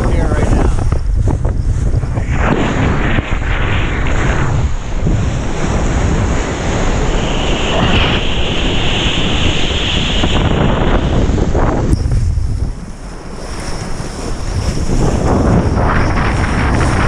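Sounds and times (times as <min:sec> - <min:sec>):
choppy water and breaking waves: 0:00.0 - 0:17.0
wind buffeting microphone: 0:00.0 - 0:17.0.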